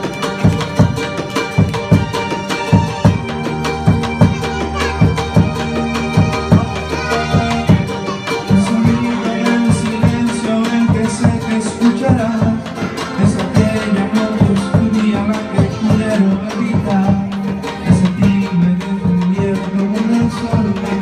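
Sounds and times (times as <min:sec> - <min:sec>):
instrumental ballad melody: 0:00.0 - 0:21.0
steady drum beat: 0:00.0 - 0:21.0.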